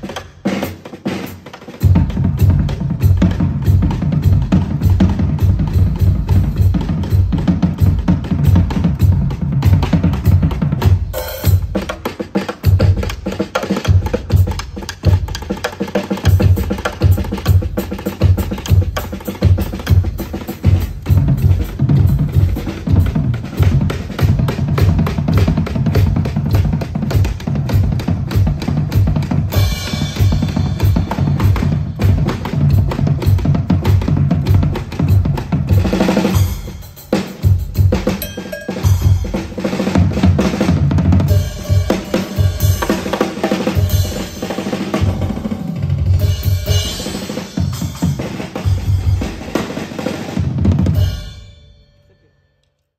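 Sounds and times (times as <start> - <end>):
drum kit played hard and fast: 0.0 - 51.9.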